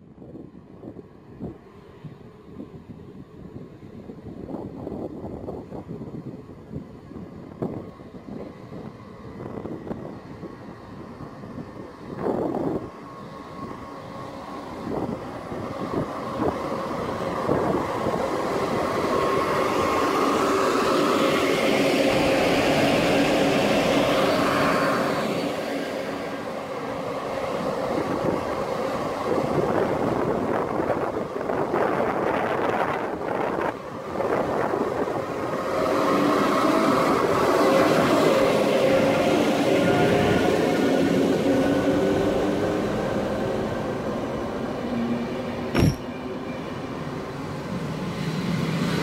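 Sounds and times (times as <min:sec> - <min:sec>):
train running noise: 0:00.0 - 0:49.0.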